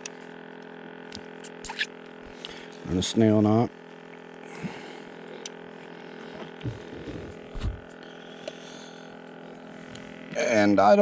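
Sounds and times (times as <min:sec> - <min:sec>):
pump electric hum: 0:00.0 - 0:11.0.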